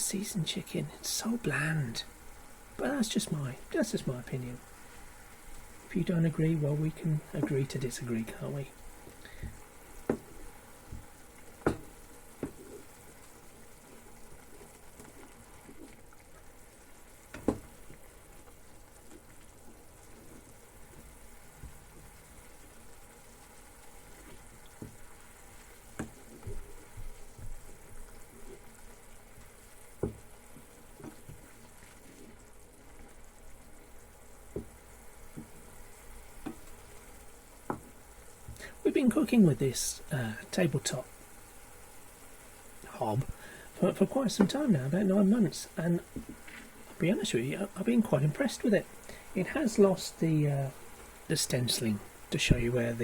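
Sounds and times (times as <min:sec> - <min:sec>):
vegetables sizzling in a pan: 0:00.0 - 0:53.0.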